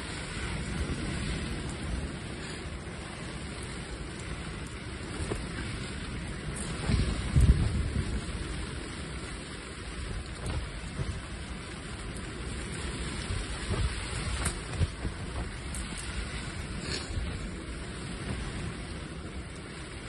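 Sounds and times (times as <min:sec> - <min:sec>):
low rumbling: 0:00.0 - 0:20.0
rain on fabric: 0:00.0 - 0:20.0.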